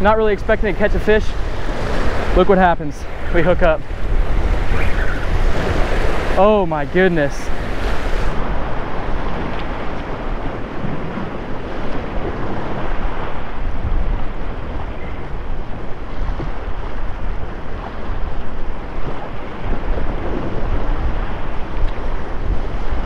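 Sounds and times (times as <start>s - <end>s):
ocean surf breaking on rocks: 0.0s - 23.0s
wind buffeting microphone: 0.0s - 23.0s.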